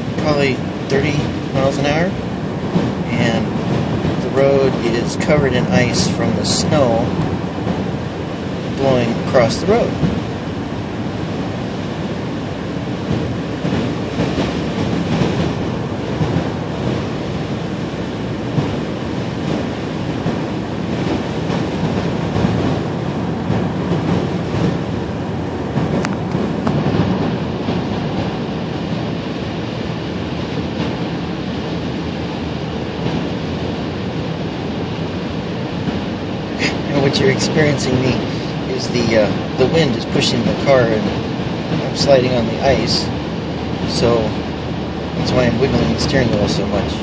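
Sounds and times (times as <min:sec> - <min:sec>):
road and wind noise inside car: 0:00.0 - 0:47.0.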